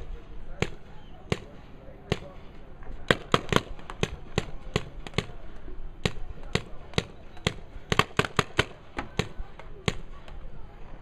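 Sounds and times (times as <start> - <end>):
paintball markers firing: 0.6 - 2.4, 3.1 - 10.4.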